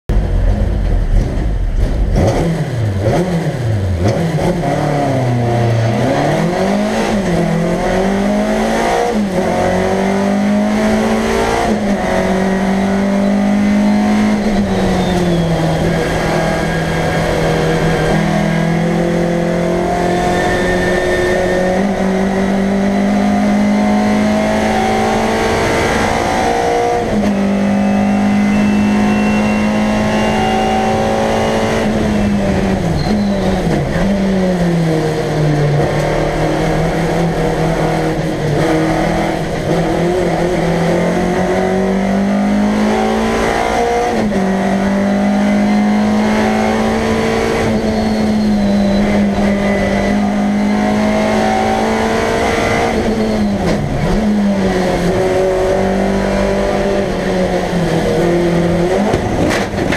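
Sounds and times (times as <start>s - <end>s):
race car engine revving: 0.1s - 59.9s.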